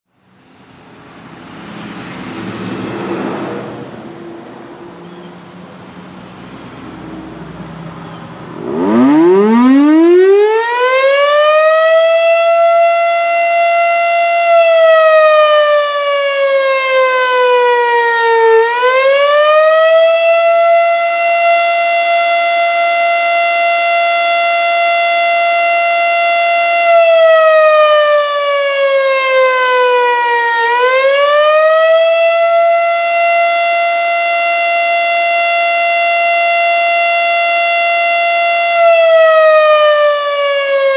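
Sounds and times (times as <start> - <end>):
tornado siren rising and falling: 0.6 - 40.9.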